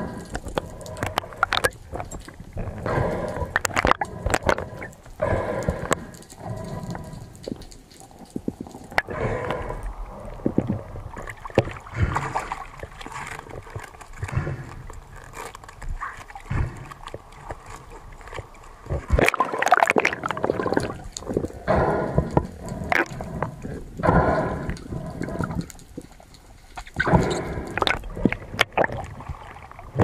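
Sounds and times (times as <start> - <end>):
water sloshing and gurgling: 0.0 - 30.0.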